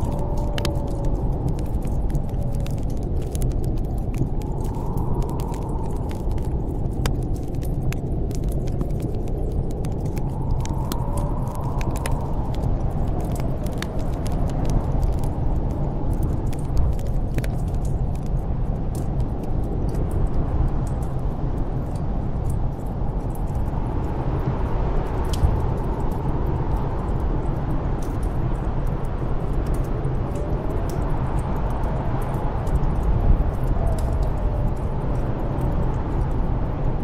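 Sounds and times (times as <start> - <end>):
wind roaring in gusts: 0.0 - 37.0
wood fire crackling: 0.0 - 37.0.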